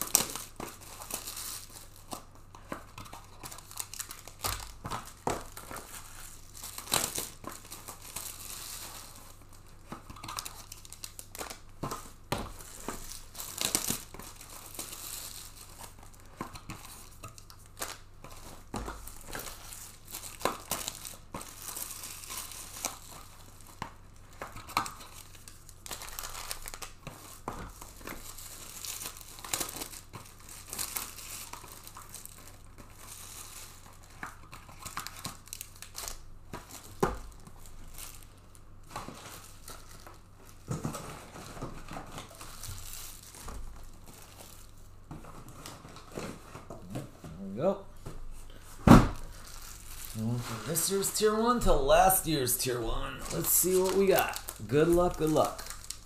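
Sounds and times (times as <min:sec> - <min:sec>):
plastic wrap tearing and crinkling: 0:00.0 - 0:56.0.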